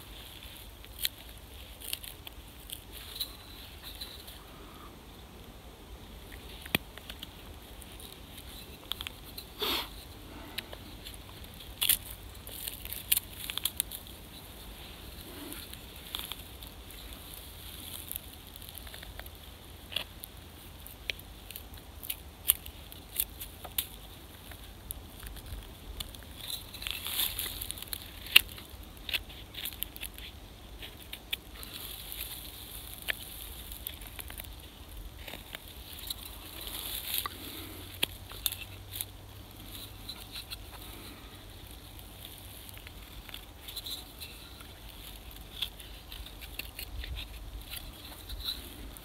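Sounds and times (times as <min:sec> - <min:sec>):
knife shaving wood: 0:00.0 - 0:04.9, 0:05.9 - 0:49.0
sharp clicks of wood chips: 0:06.2 - 0:49.0.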